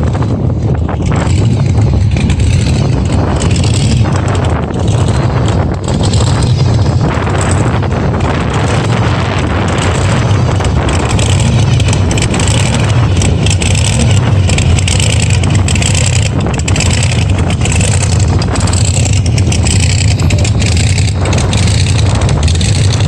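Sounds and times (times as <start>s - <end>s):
car engine running: 0.0s - 23.0s
wind noise on microphone: 0.0s - 23.0s.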